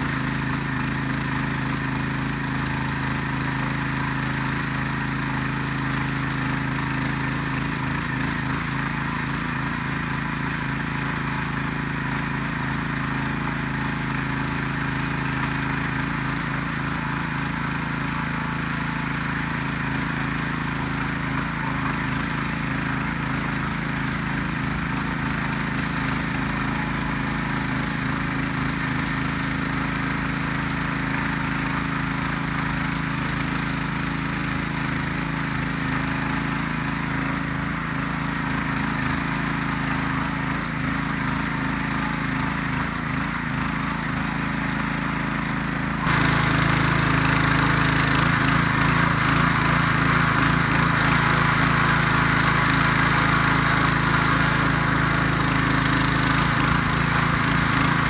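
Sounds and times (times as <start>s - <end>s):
motor hoe engine tilling soil: 0.0s - 58.0s.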